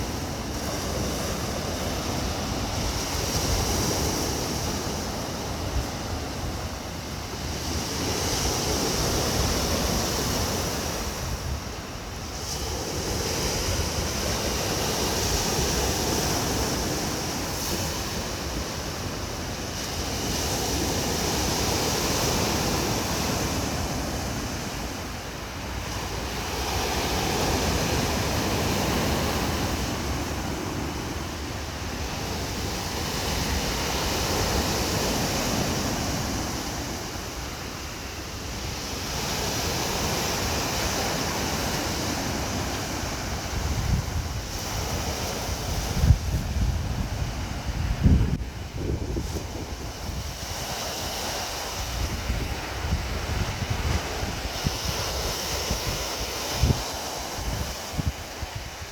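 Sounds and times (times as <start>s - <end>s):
waves washing in: 0.0s - 58.9s.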